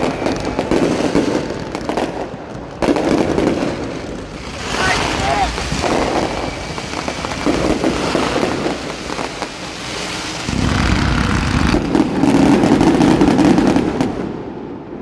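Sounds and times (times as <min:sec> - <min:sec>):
rumble of firework booms: 0:00.0 - 0:14.6
crackling firework bursts: 0:00.0 - 0:15.0.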